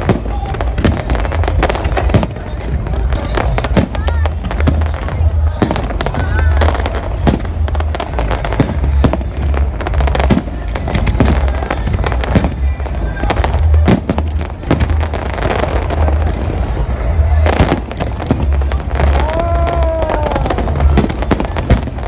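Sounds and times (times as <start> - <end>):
fireworks bangs and crackles: 0.0 - 22.0
heavy fireworks boom: 0.0 - 22.0.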